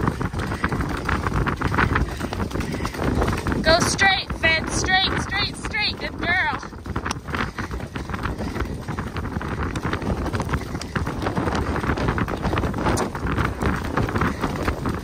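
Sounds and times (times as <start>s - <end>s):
horse hooves on snowy trail: 0.0s - 15.0s
wind noise on microphone: 0.0s - 15.0s.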